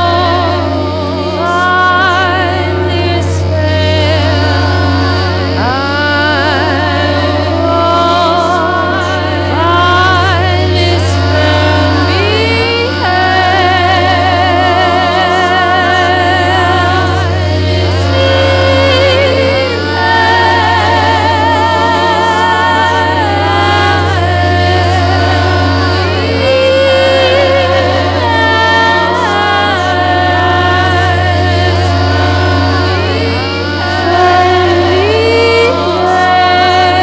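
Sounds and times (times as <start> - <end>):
feedback instrument tones: 0.0 - 37.0
low drone: 0.0 - 37.0
woman singing with vibrato: 0.0 - 37.0.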